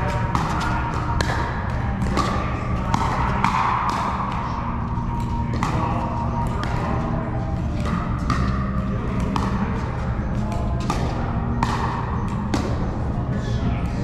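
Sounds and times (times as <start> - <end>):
paddles striking plastic ball: 0.0 - 13.0
background music: 0.0 - 14.0
low steady hum: 0.0 - 14.0.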